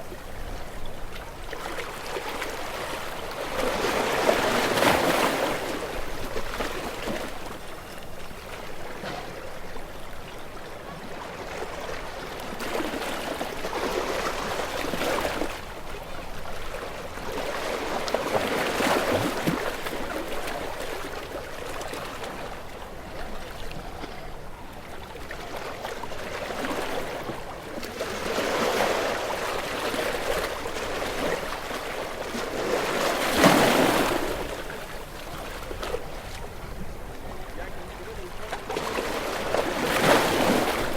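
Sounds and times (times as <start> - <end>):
ocean waves breaking: 0.0 - 10.3, 10.9 - 40.9.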